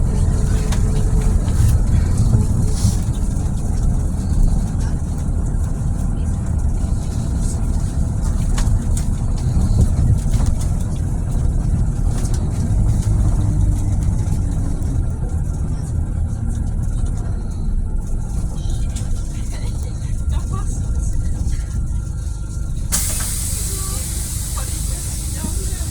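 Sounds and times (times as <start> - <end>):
bus diesel engine rumbling: 0.0 - 25.9.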